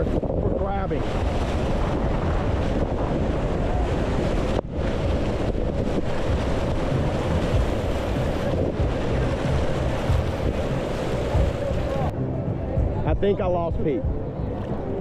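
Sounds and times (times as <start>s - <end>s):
whitewater rushing around hull: 0.0s - 15.0s
wind buffeting microphone: 0.0s - 15.0s.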